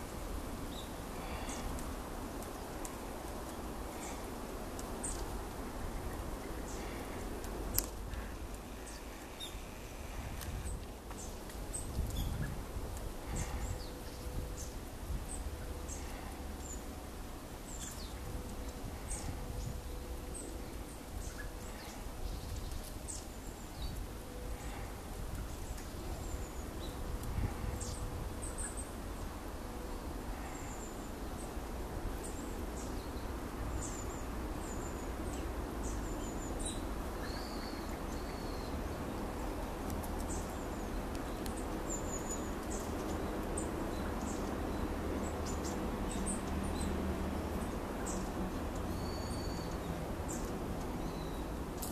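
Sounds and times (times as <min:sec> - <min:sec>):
small birds calling: 0:00.0 - 0:51.9.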